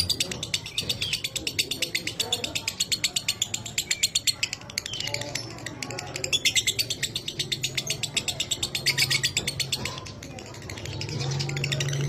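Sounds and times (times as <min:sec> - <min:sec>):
bird chattering trill: 0:00.0 - 0:12.0.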